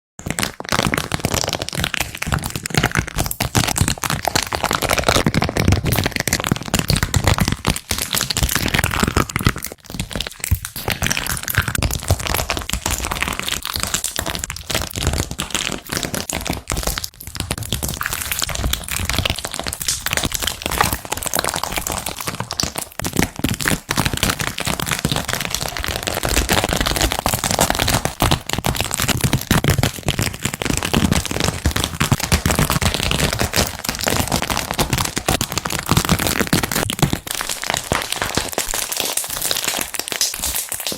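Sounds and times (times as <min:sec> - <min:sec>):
slime crackling when squeezed: 0:00.2 - 0:40.9.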